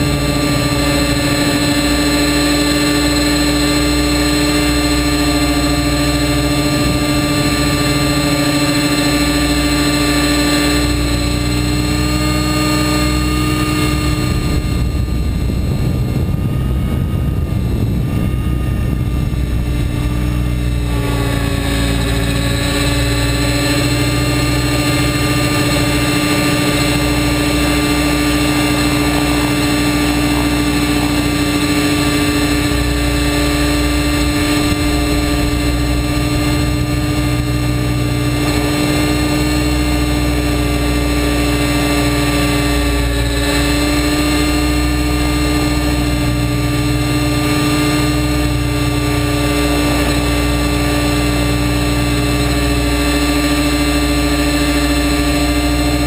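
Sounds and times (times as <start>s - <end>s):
rc helicopter whine: 0.0s - 56.0s
rotor and vibration noise: 0.0s - 56.0s.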